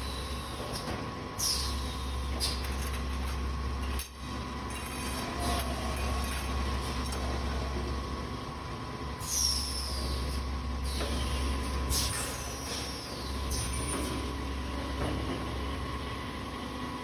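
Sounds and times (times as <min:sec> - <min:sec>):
machine humming and whining: 0:00.0 - 0:17.0.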